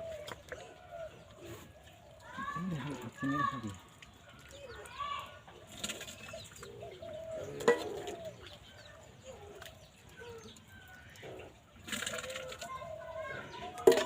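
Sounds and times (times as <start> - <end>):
birds cooing and chirping: 0.0 - 14.0.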